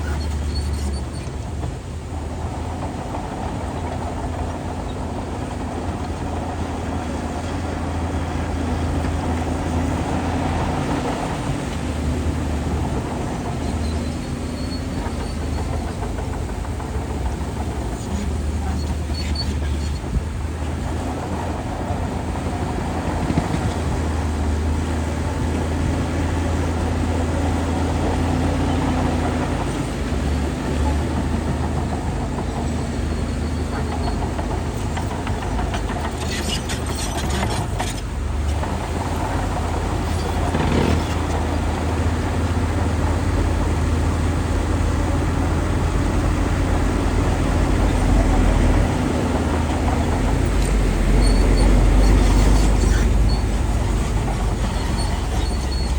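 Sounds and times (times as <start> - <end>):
metallic clanks and squeals: 0.0 - 2.0, 2.6 - 55.9
bulldozer diesel engine under load: 0.0 - 55.9.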